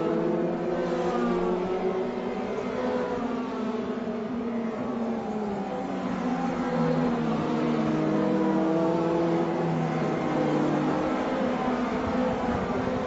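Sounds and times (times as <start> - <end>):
racing car engines at high revs: 0.0 - 13.0.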